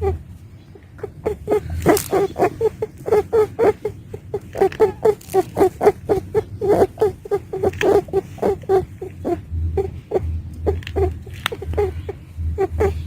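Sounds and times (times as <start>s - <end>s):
low hum: 0.0s - 13.0s
rabbit squeaky calls: 0.0s - 13.0s.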